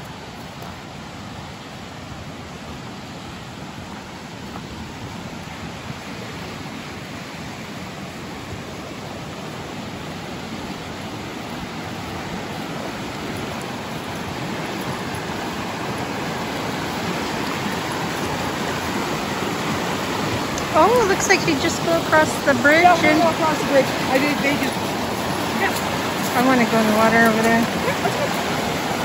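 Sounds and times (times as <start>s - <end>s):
creek rushing over rocks: 0.0s - 29.0s.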